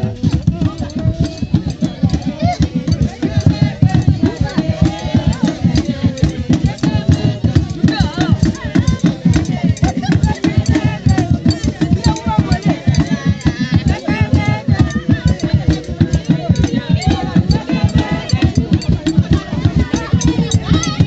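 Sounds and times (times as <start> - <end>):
group singing: 0.0 - 21.0
percussion beat with rattles: 0.0 - 21.0.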